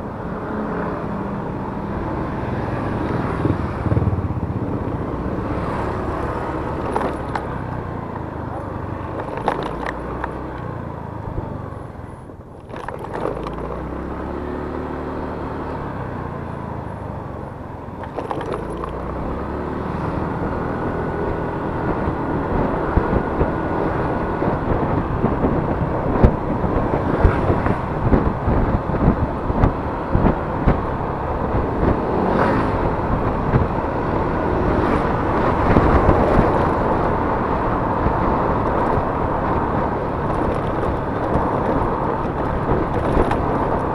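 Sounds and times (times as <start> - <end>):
wind noise on microphone: 0.0 - 14.2, 17.9 - 43.9
scooter engine accelerating: 0.0 - 43.9.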